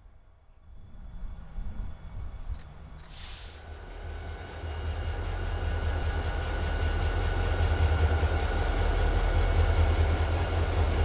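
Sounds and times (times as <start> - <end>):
diesel locomotive engine rumble: 0.3 - 11.0.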